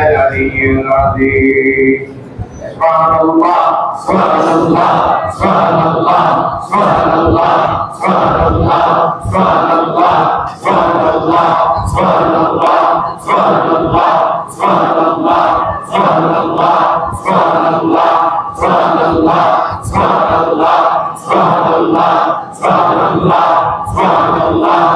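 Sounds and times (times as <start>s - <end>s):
men chanting in unison: 2.8s - 24.9s.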